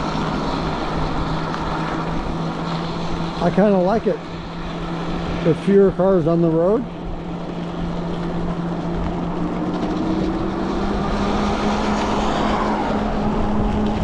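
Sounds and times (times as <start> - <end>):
tyres and wind hissing: 0.0 - 14.0.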